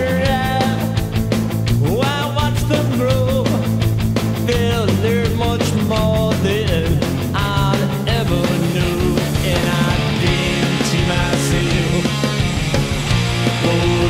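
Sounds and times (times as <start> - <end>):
fast punk rock music: 0.0 - 14.0.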